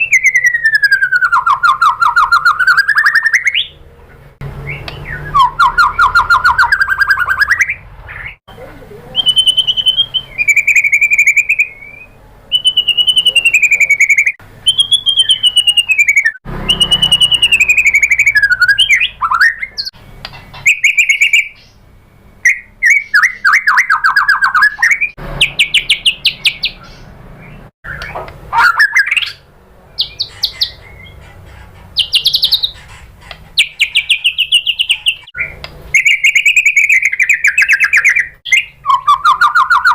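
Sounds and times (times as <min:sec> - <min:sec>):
bird singing whistled phrases: 0:00.0 - 0:03.8, 0:04.6 - 0:08.4, 0:09.1 - 0:20.0, 0:20.6 - 0:27.1, 0:27.9 - 0:29.4, 0:33.6 - 0:39.9.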